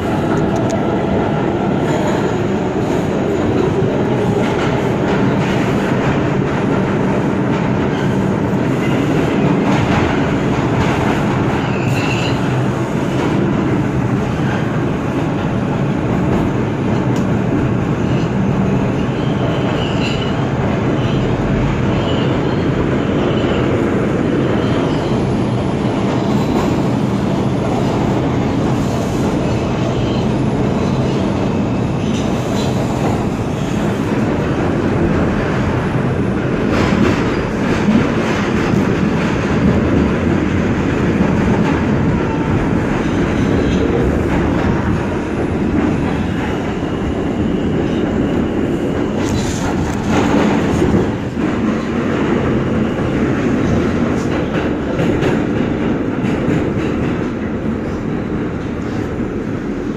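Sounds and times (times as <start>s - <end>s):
subway car wheels rumbling on rail: 0.0s - 59.9s.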